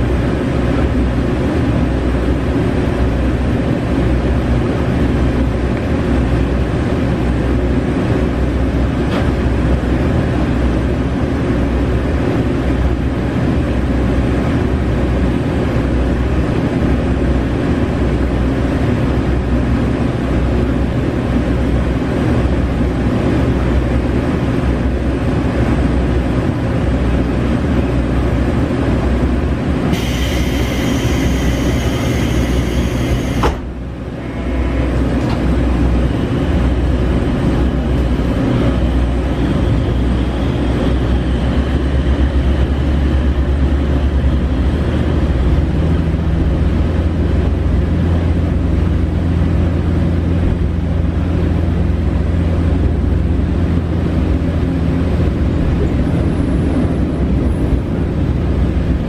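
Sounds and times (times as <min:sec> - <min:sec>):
diesel engine drone: 0:00.0 - 0:59.0
wheel and rail rumble: 0:00.0 - 0:59.0.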